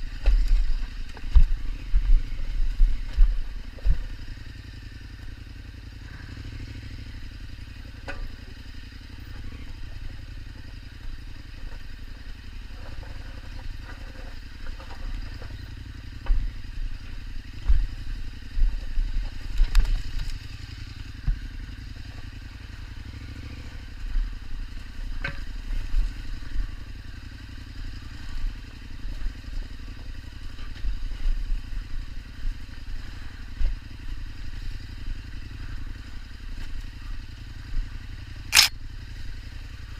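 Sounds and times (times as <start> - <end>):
motorcycle thumps and clatter: 0.0 - 5.8, 6.4 - 38.7
motorcycle engine running: 0.0 - 39.9.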